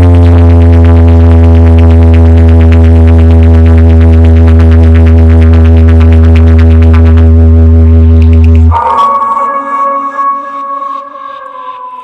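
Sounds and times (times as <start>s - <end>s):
deep synth bass drone: 0.0s - 12.0s
fast pulsing electronic buzz: 0.0s - 12.0s.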